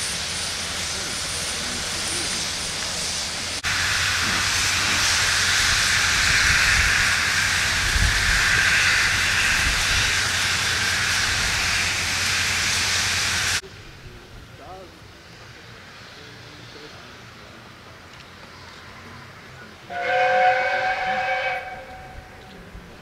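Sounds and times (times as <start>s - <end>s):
steam hissing from locomotive: 0.0s - 23.0s.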